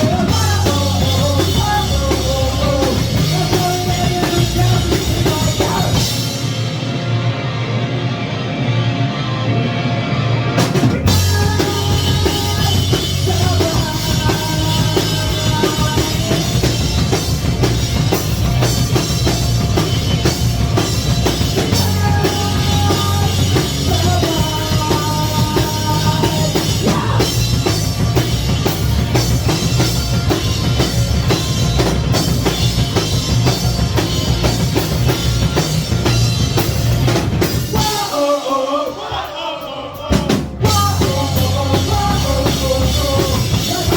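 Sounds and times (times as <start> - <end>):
drum kit pounding fast beat: 0.0 - 7.7, 10.5 - 43.9
bass guitar: 0.0 - 43.9.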